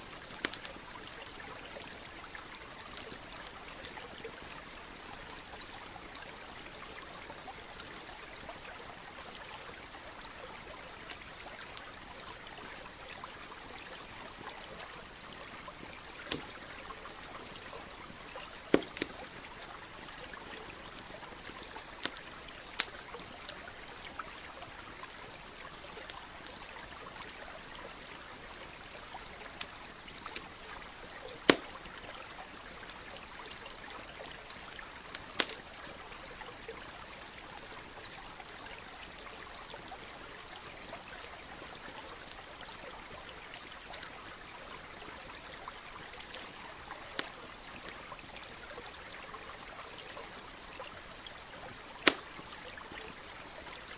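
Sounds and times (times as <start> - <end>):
campfire crackling and popping: 0.0 - 53.9
stream trickling and rushing: 0.0 - 53.9.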